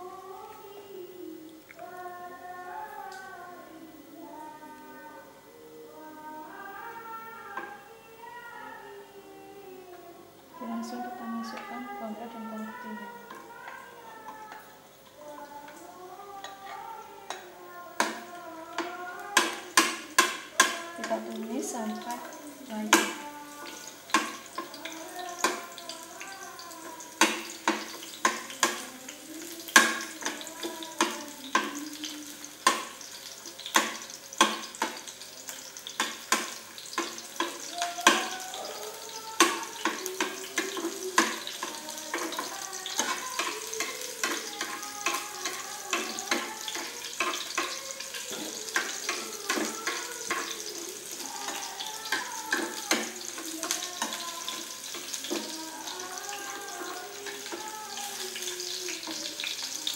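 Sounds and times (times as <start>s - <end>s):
food sizzling in hot oil: 10.5s - 59.9s.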